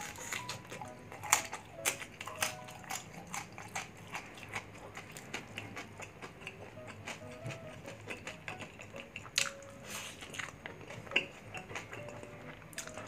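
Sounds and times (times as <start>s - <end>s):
crunching crispy pork: 0.0s - 13.0s.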